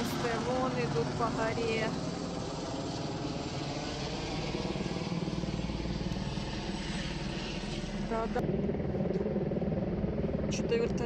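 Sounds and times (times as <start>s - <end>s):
helicopter engine drone: 0.0s - 11.0s
helicopter rotor beating: 0.0s - 11.0s.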